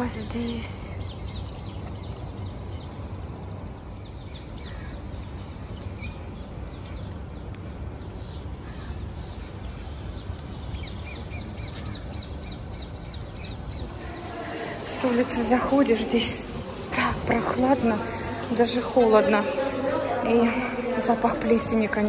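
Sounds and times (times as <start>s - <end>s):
birds chirping: 0.0s - 22.0s
low street rumble: 0.0s - 22.0s.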